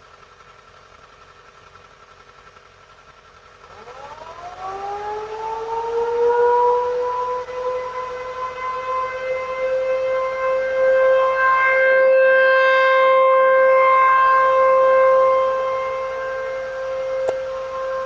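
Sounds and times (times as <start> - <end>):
warning siren steady tone: 3.5 - 18.0.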